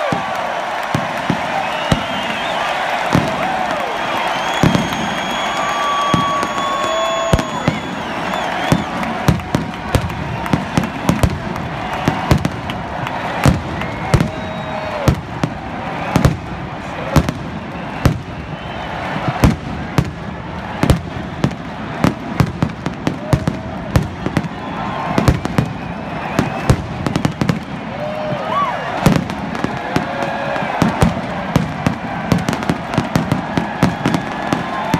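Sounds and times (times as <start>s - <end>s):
fireworks bursting: 0.0s - 34.9s.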